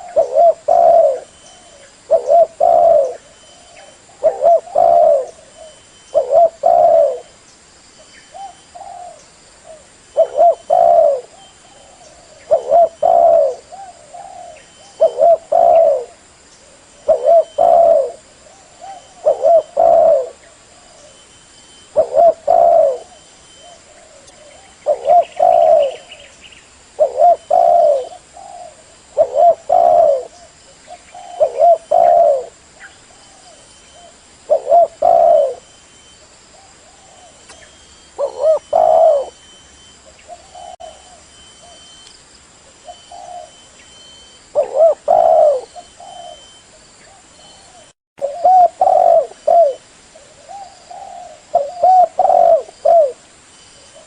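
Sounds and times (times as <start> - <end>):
dove cooing: 0.0 - 7.3, 8.3 - 26.3, 27.0 - 35.9, 36.6 - 42.0, 42.7 - 53.2.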